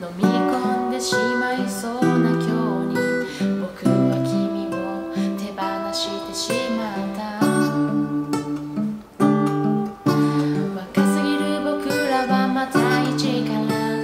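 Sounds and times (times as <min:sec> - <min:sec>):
person singing pop ballad: 0:00.0 - 0:08.5, 0:10.1 - 0:14.0
acoustic guitar strumming: 0:00.0 - 0:14.0.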